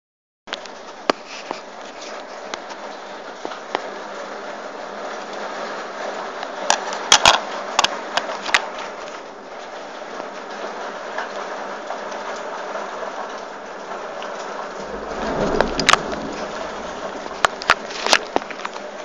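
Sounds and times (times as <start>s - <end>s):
heavy rain hissing: 0.7s - 19.0s.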